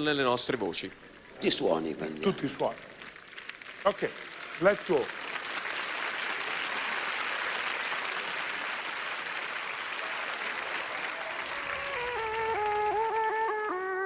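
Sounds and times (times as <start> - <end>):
studio audience applauding: 0.0 - 14.0.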